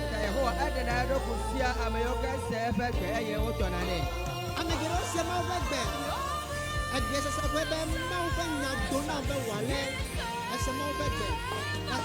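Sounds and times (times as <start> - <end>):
low drum beat: 0.0 - 12.0
wavering melody notes: 0.0 - 12.0.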